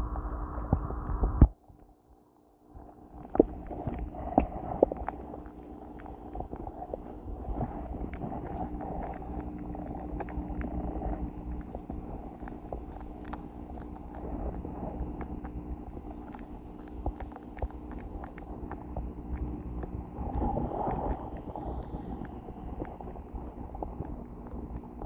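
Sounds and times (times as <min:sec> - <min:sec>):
underwater low hum: 0:00.0 - 0:25.0
underwater clicks and pops: 0:03.2 - 0:25.0.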